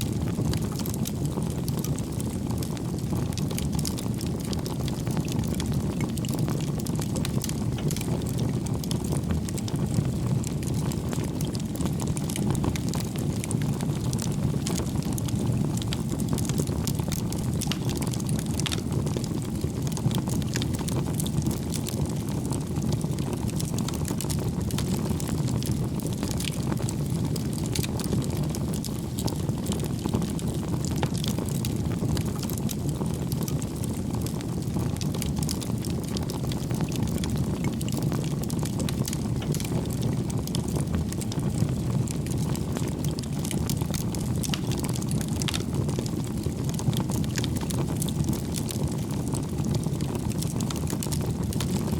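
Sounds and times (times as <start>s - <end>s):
burning logs crackling: 0.0s - 51.9s
fire flames rumbling: 0.0s - 51.9s.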